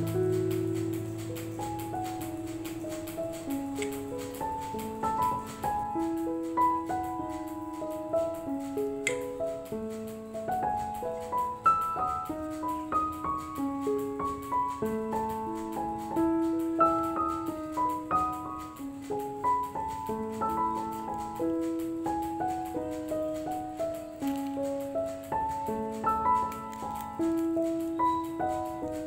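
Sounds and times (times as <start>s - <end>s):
piano melody: 0.0s - 29.0s.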